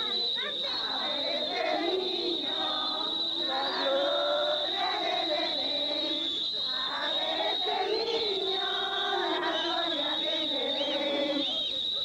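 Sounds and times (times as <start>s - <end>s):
group singing: 0.0s - 11.8s.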